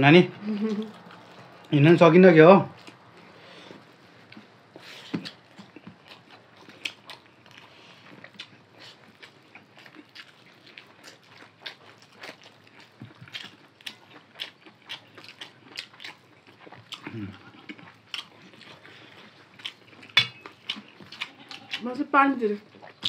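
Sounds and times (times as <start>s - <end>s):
chewing and mouth smacking: 0.4s - 1.8s, 2.6s - 23.0s.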